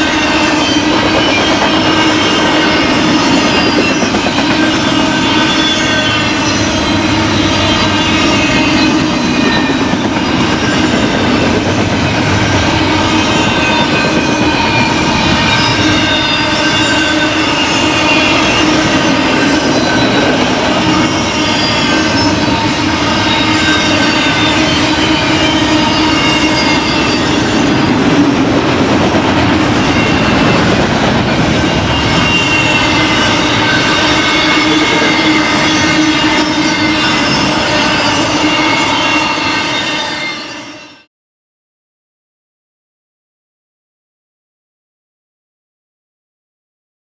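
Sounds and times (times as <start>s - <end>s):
shrill wheel squeal: 0.0s - 28.5s, 29.3s - 41.1s
train wheels rumbling on rail: 0.0s - 40.9s.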